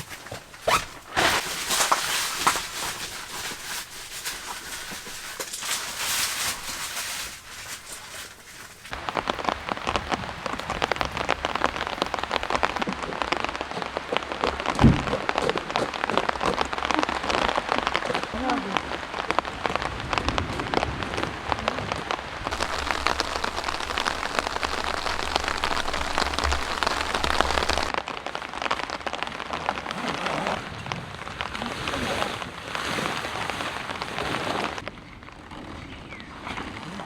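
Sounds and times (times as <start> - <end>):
heavy rain pattering: 0.0 - 32.7.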